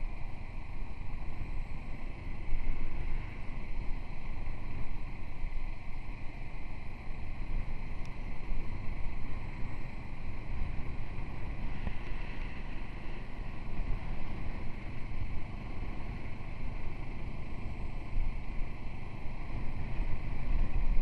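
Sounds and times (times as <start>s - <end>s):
low drone of motorcycle: 0.0s - 21.0s.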